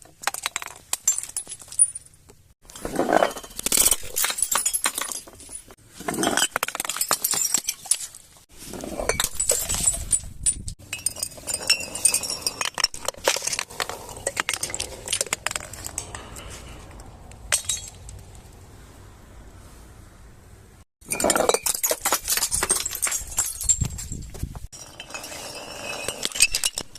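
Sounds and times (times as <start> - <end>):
broken glass clinking and crunching: 0.2 - 8.4, 9.1 - 16.7, 17.5 - 18.2, 21.0 - 26.9.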